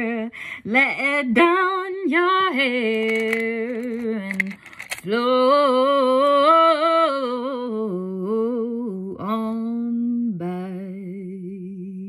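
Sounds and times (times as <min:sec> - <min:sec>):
woman singing without words: 0:00.0 - 0:12.0.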